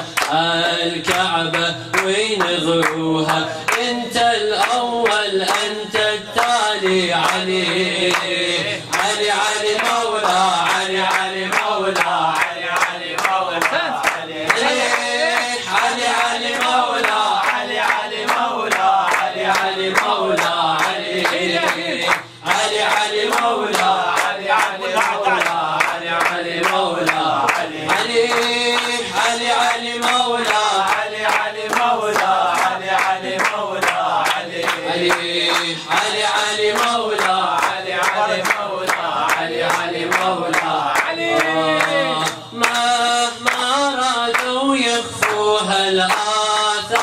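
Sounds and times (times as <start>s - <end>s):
man chanting: 0.0s - 47.0s
rhythmic hand clapping: 0.0s - 47.0s.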